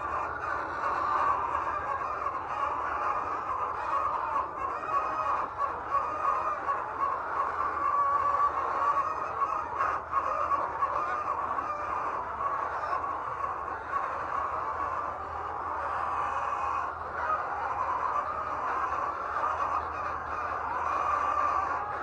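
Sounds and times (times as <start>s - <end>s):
hens clucking and squawking: 0.0s - 22.0s.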